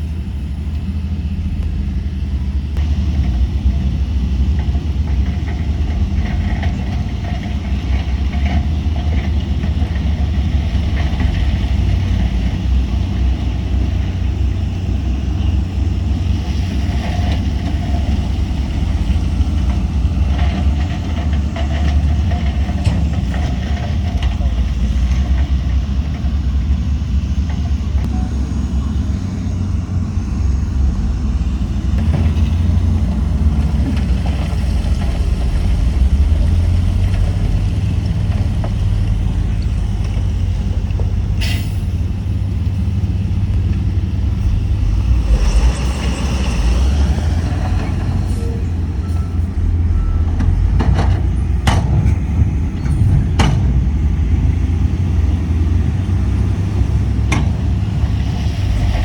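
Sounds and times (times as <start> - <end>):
diesel machinery rumbling: 0.0 - 59.0.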